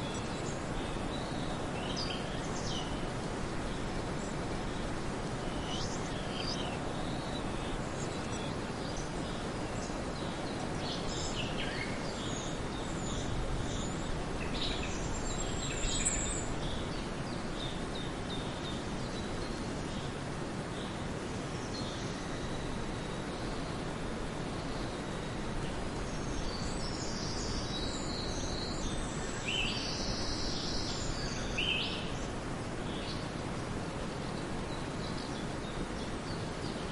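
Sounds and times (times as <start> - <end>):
steady background hiss: 0.0 - 36.9.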